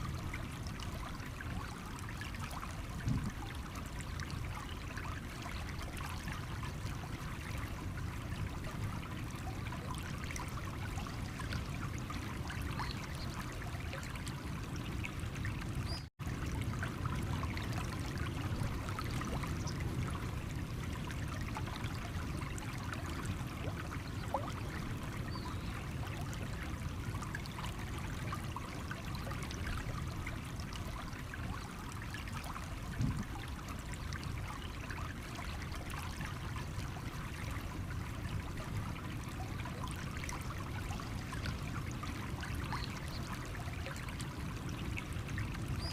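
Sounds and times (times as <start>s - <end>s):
stream water trickling over stones: 0.0s - 45.9s.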